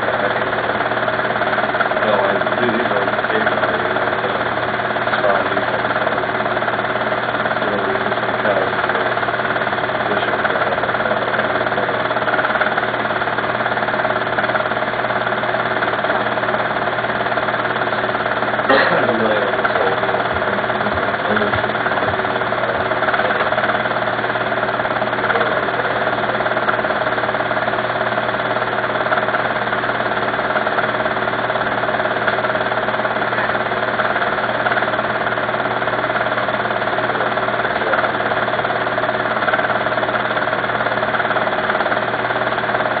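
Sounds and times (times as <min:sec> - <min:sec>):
small machine whirring: 0:00.0 - 0:43.0.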